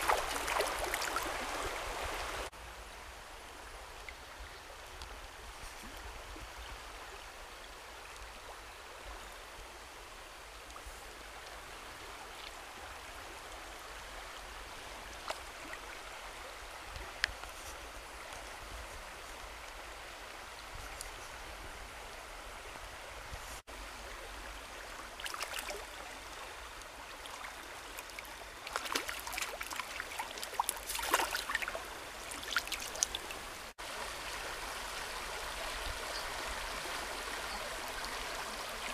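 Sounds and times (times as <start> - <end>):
stream flowing over riffle: 0.0 - 38.9.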